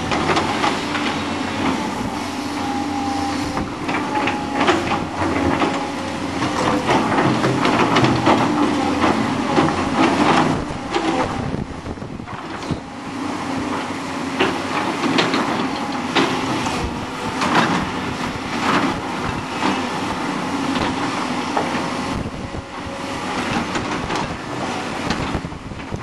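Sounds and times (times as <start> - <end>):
excavator diesel engines running: 0.0 - 26.0
wind buffeting microphone: 0.0 - 26.0.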